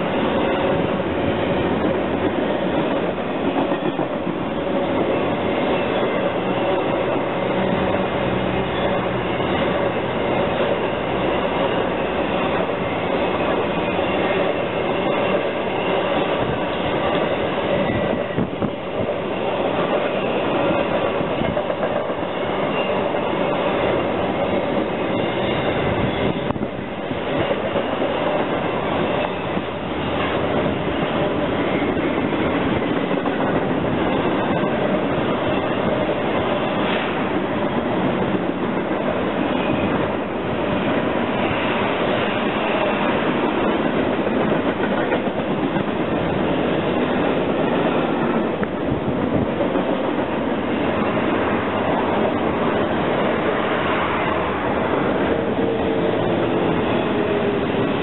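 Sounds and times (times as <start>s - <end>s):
freight train wheels clattering on rails: 0.0s - 58.0s.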